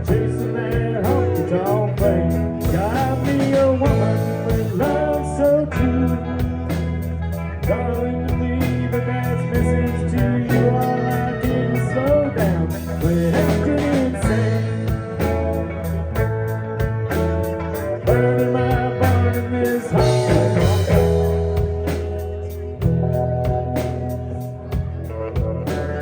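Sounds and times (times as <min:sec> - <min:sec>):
live band playing country-rock: 0:00.0 - 0:26.0.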